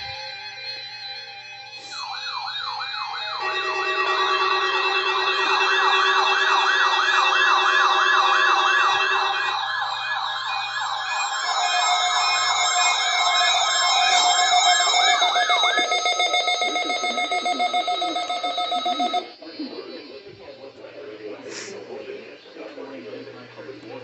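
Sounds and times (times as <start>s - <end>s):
electronic sirens yelping: 0.0s - 20.6s.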